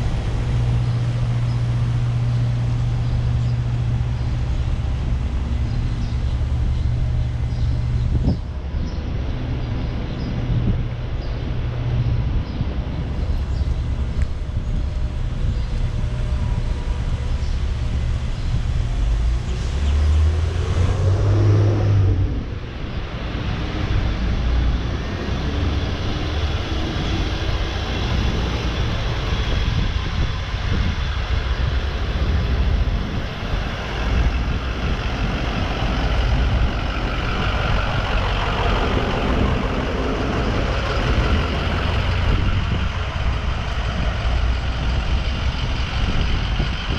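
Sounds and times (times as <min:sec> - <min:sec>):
traffic engine rumble: 0:00.0 - 0:46.9
engine rising and falling in pitch: 0:09.1 - 0:46.9.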